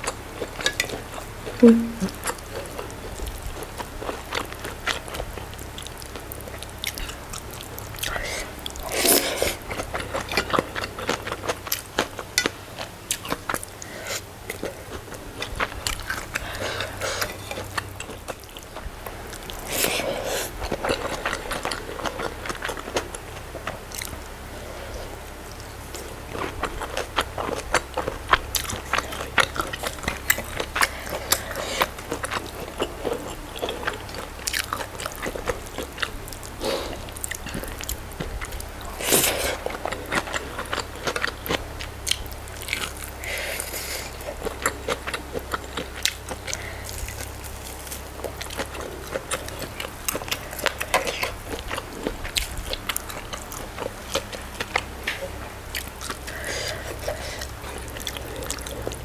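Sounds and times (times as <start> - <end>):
chewing with mouth clicks: 0.0 - 59.0.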